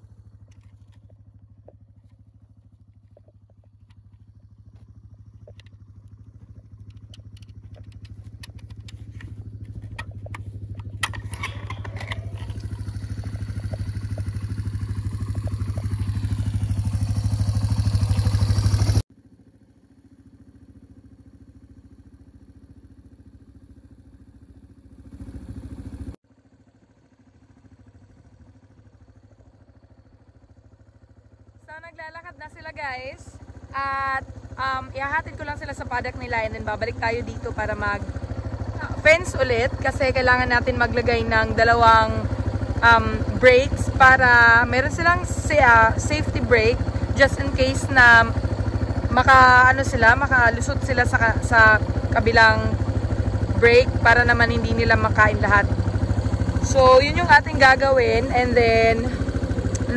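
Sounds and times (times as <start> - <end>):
motorbike engine idling: 0.0 - 59.9.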